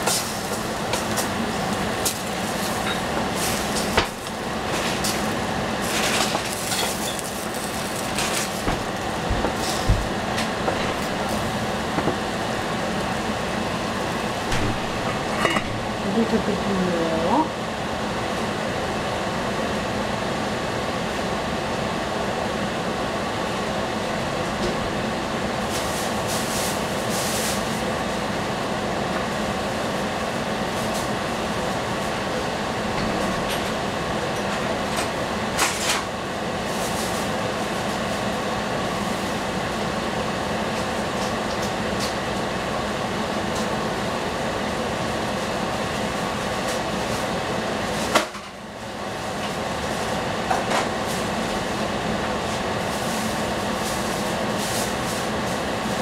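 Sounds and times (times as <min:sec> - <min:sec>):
saucepan cooking on gas burner: 0:00.0 - 0:32.9, 0:33.5 - 0:56.0.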